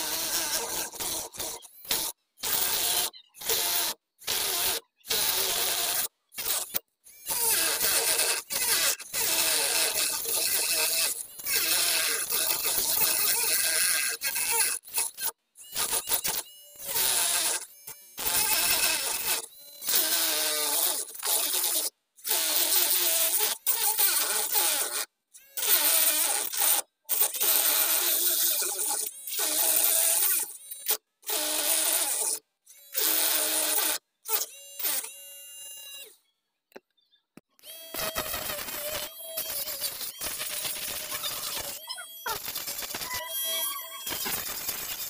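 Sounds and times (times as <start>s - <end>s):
rotary tool cutting plastic pipe: 0.0s - 36.8s, 37.5s - 45.0s.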